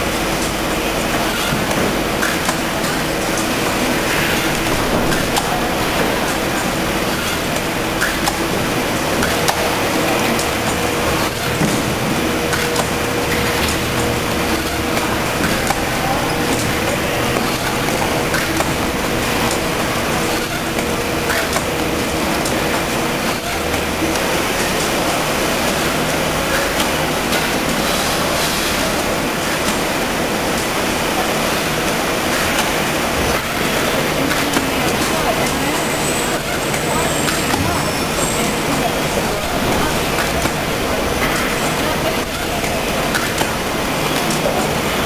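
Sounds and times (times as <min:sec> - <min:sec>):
faint machine hum: 0:00.0 - 0:45.0.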